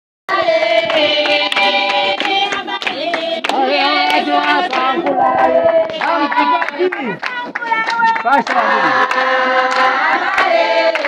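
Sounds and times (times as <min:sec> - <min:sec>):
group of people singing: 0:00.3 - 0:11.0
hands clapping: 0:00.4 - 0:11.0.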